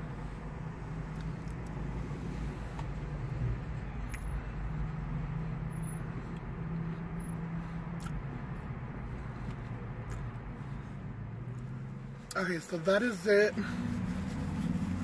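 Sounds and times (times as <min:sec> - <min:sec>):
vehicle cabin hum: 0:00.0 - 0:15.0.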